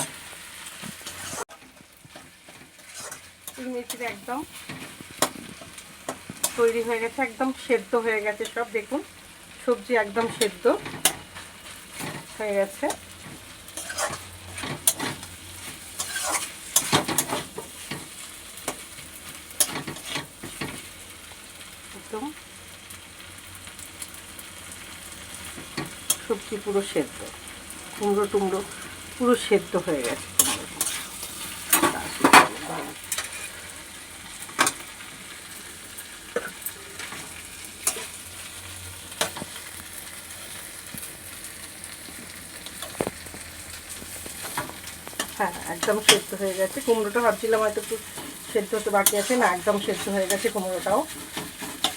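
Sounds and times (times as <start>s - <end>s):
spatula scraping vegetables in pan: 0.0s - 7.2s, 10.1s - 20.9s, 25.4s - 41.2s, 42.1s - 51.9s
low sizzle: 0.0s - 51.9s.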